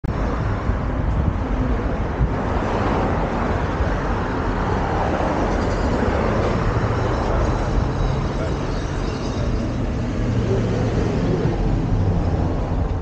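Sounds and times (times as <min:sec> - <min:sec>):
city street traffic: 0:00.0 - 0:13.0
wind rumbling on microphone: 0:00.1 - 0:13.0.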